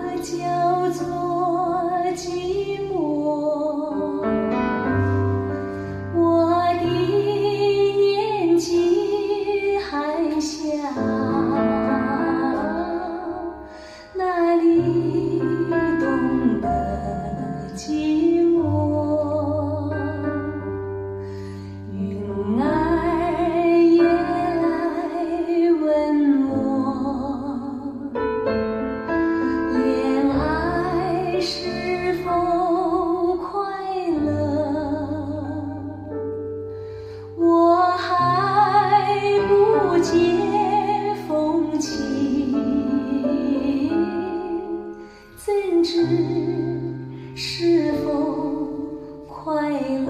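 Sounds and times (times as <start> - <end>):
slow instrumental ballad: 0.0 - 50.0.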